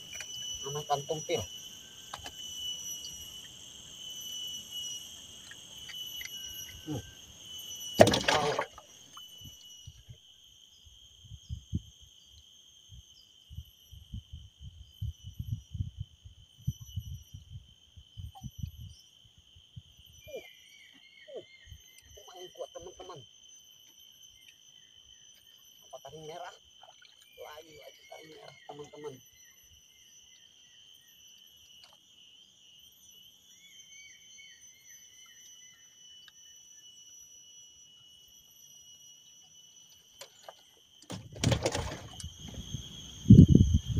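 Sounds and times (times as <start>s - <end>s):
high-pitched insect chorus: 0.0s - 43.9s.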